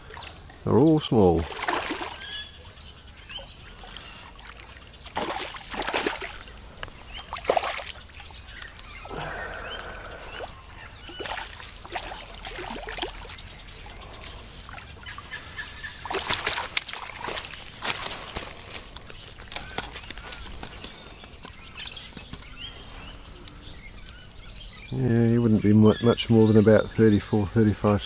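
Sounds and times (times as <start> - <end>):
water splashing and trickling: 0.0 - 23.8
birds chirping: 0.0 - 28.0.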